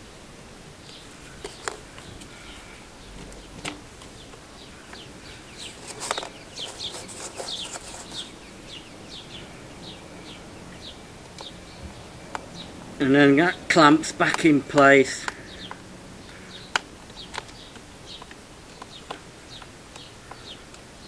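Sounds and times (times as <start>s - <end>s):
bird chirping: 0.8s - 21.0s.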